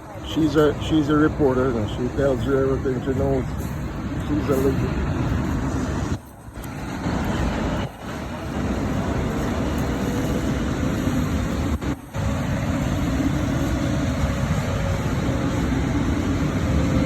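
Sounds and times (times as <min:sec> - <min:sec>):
fire truck engines and pumps rumbling: 0:00.0 - 0:17.0.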